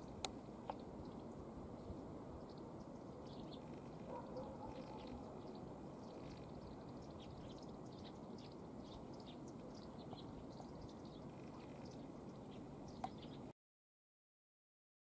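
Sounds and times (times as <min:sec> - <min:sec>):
low background hiss: 0:00.0 - 0:13.5
sparrows chirping: 0:00.0 - 0:13.5.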